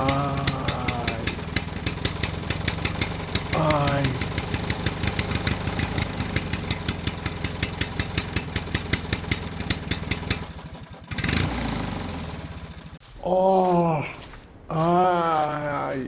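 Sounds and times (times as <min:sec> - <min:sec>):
small engine ticking: 0:00.0 - 0:13.0.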